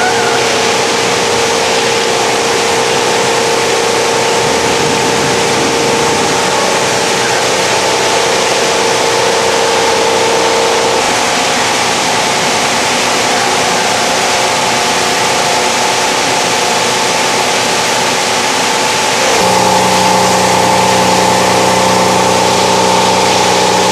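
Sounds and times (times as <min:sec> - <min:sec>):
loud machine din with hum tones: 0:00.0 - 0:23.9.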